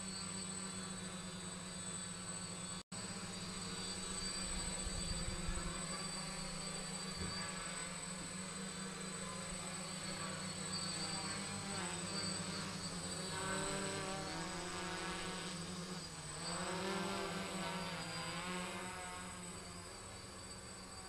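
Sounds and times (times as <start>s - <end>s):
quadcopter motors buzzing: 0.0s - 21.0s.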